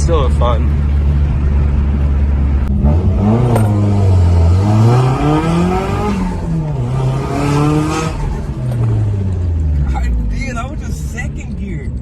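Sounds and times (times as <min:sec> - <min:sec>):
car engine accelerating hard: 0:00.0 - 0:11.5.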